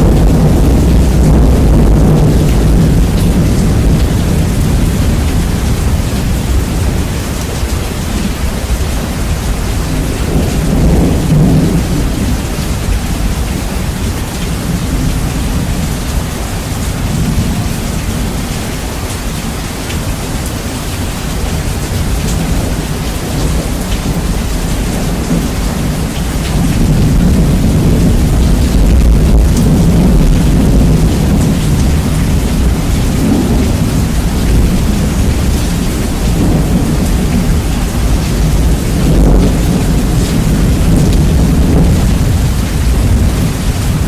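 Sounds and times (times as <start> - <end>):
heavy rain: 0.0 - 44.0
thunder rumbling: 0.0 - 44.0.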